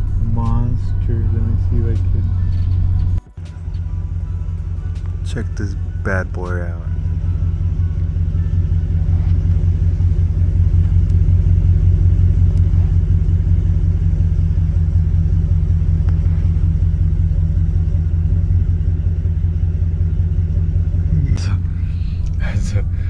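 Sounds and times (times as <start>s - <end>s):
engine running in car cabin: 0.0s - 23.0s
road noise: 0.0s - 23.0s.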